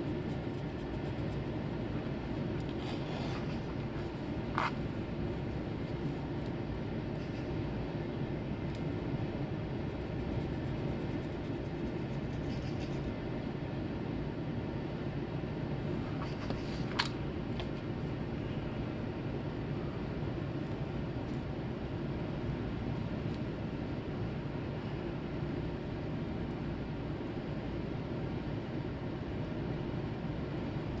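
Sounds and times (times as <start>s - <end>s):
low rumbling background noise: 0.0s - 31.0s.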